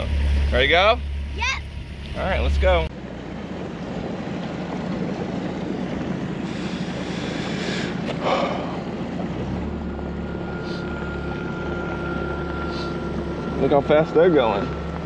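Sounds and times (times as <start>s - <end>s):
outboard motor running: 0.0s - 15.0s
steady whine: 0.0s - 15.0s
water noise: 0.0s - 15.0s.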